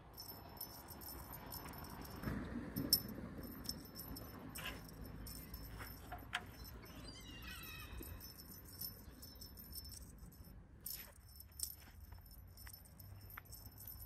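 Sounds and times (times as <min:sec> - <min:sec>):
low outdoor background hum: 0:00.0 - 0:14.0
small bell jingling: 0:00.0 - 0:14.0.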